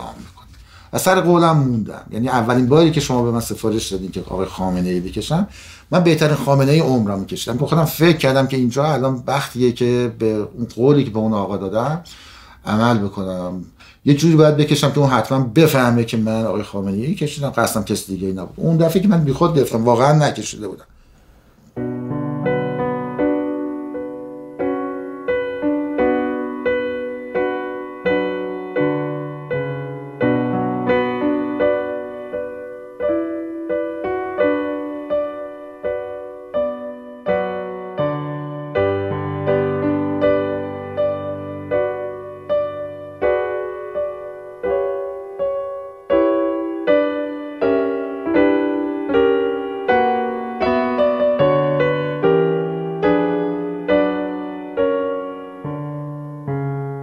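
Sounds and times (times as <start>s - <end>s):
slow quiet piano music: 0.0s - 20.8s, 21.7s - 57.0s.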